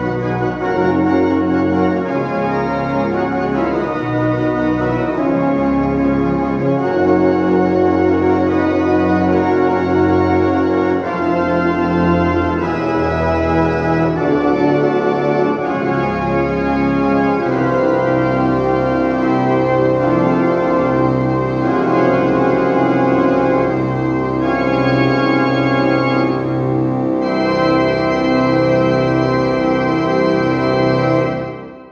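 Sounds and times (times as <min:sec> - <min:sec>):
pipe organ playing loud chords: 0:00.0 - 0:31.9.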